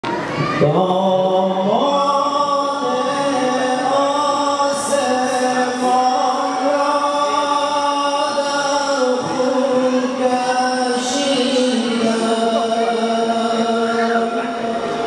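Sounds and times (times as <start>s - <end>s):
men chanting over a microphone: 0.4s - 15.0s.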